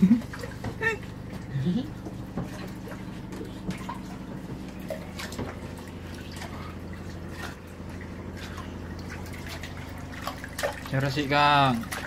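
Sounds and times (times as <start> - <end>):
steady low hum: 0.0 - 12.0
hand splashing water and rice: 2.0 - 12.0.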